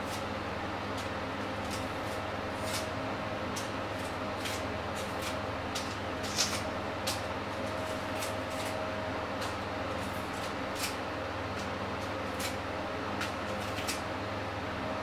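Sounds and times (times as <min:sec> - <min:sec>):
room hum: 0:00.0 - 0:15.0
knife scraping onion skin: 0:00.9 - 0:08.8, 0:09.4 - 0:14.0.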